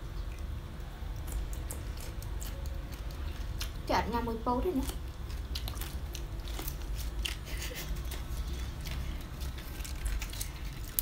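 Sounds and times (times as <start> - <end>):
low steady hum: 0.0 - 11.0
chewing with wet mouth clicks: 0.2 - 3.9, 4.8 - 11.0
fresh leaves crackling: 1.1 - 11.0.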